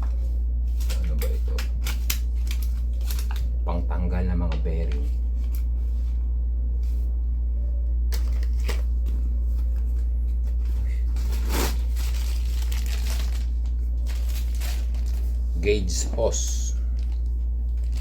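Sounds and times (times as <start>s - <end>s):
steady deep hum: 0.0s - 18.0s.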